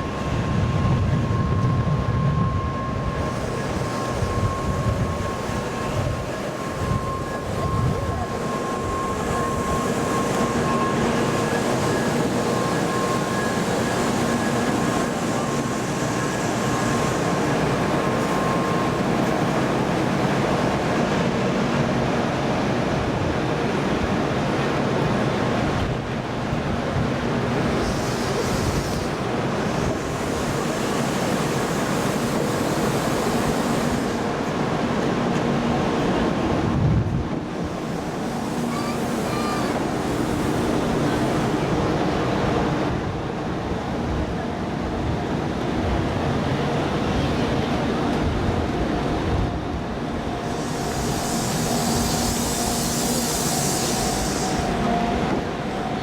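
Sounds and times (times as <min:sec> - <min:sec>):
train running: 0:00.0 - 0:56.0.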